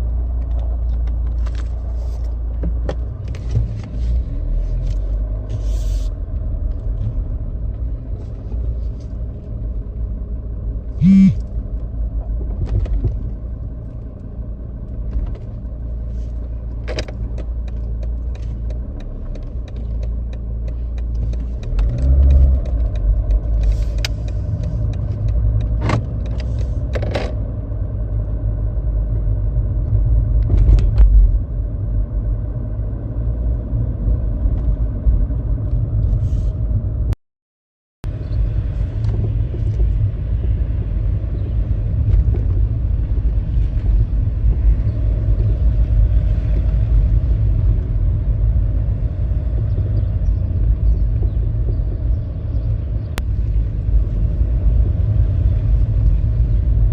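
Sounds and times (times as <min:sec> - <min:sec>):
low road rumble: 0:00.0 - 0:37.2, 0:38.0 - 0:56.9.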